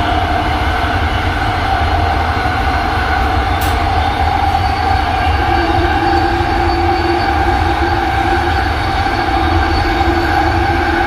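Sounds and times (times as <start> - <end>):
high whine: 0.0 - 11.0
train low rumble: 0.0 - 11.0.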